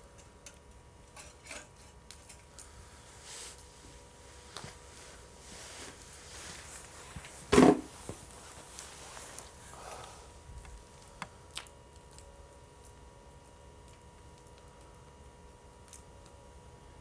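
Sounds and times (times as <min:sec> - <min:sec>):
wood fire hissing and crackling: 0:00.0 - 0:17.0.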